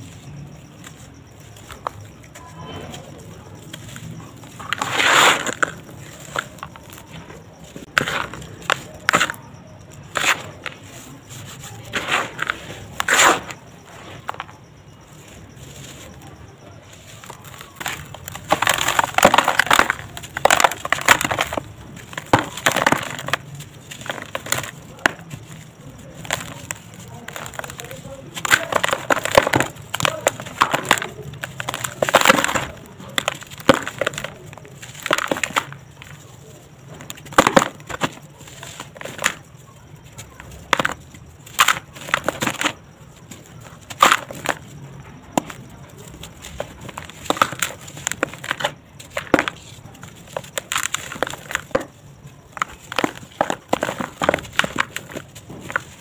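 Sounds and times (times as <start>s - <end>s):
sand-cement chunks crunching in hands: 0.0s - 56.0s.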